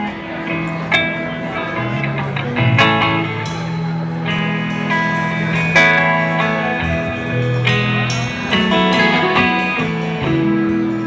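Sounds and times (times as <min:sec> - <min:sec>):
bass guitar line: 0:00.0 - 0:11.0
electric guitars ringing chords: 0:00.0 - 0:11.0.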